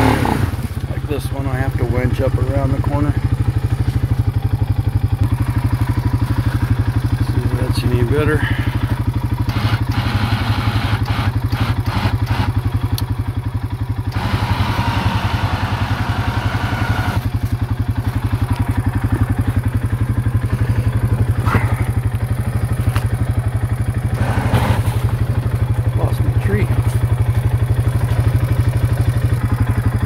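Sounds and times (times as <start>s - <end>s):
quad engine running: 0.0s - 30.0s.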